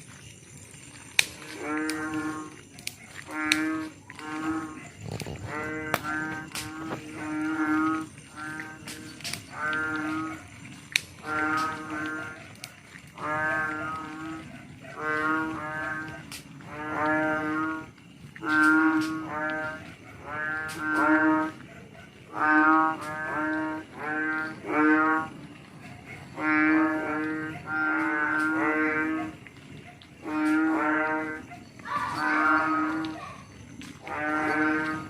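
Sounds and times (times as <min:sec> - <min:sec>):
frogs croaking: 0:00.0 - 0:35.0.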